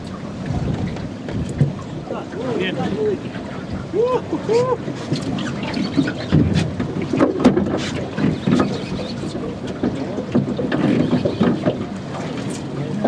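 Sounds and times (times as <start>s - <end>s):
rush of wind and water: 0.0s - 13.0s.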